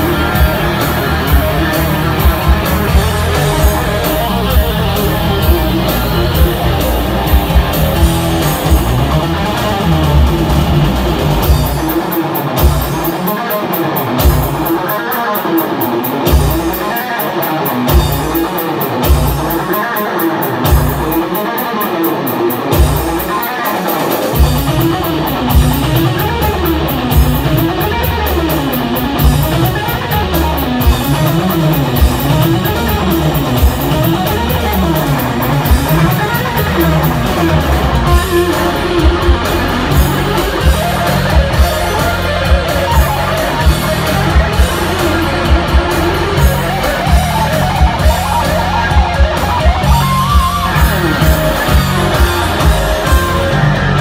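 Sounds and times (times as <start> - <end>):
electric guitar lead runs: 0.0 - 54.0
heavy metal band playing: 0.0 - 54.0.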